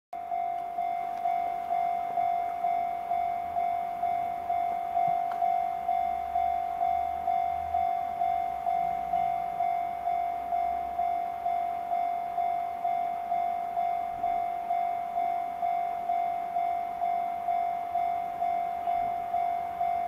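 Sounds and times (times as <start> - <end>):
level crossing warning bell: 0.2 - 20.0.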